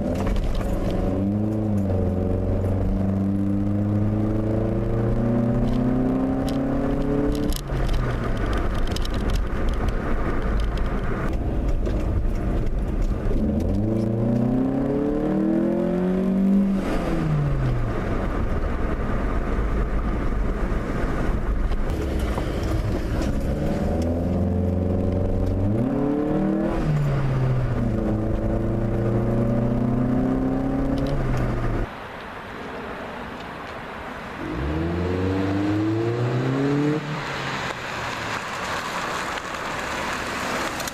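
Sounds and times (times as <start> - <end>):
car engine accelerating: 0.0 - 31.9, 34.4 - 40.9.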